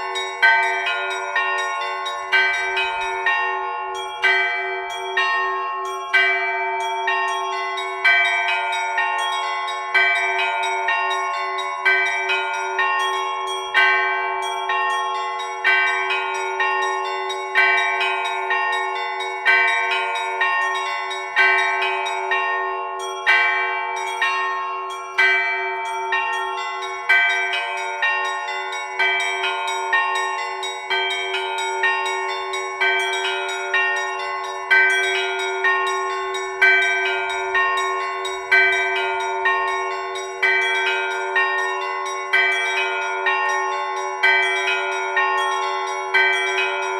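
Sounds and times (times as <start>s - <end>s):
heavy bell striking: 0.0s - 46.9s
hum of ringing bells: 0.0s - 46.9s
small bells chiming: 0.0s - 46.9s.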